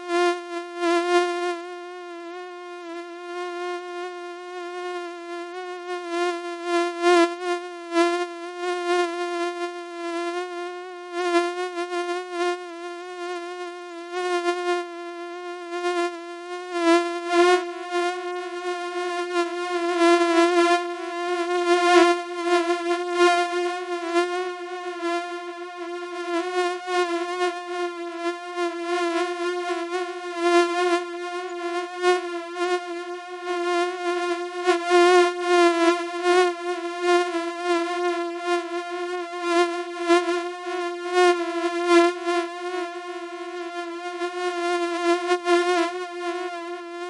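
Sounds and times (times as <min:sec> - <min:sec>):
mosquito buzzing: 0:00.0 - 0:47.0.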